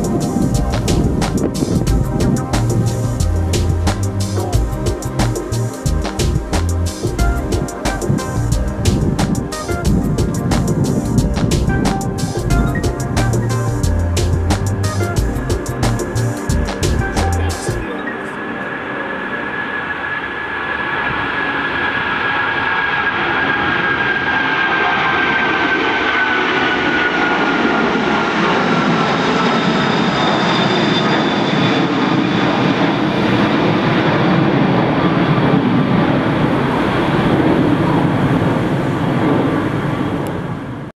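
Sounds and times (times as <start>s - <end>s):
jet engines at take-off power: 0.0s - 40.9s.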